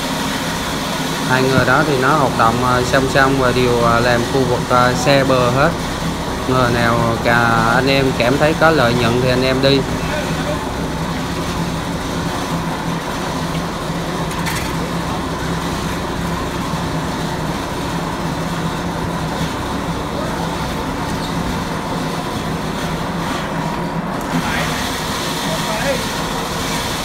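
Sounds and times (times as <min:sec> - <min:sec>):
engine humming: 0:00.0 - 0:27.0
rushing noise: 0:00.0 - 0:27.0.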